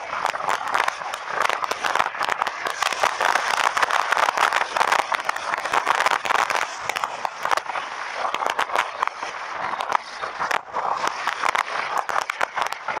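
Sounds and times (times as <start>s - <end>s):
crackles and pops: 0.0s - 13.0s.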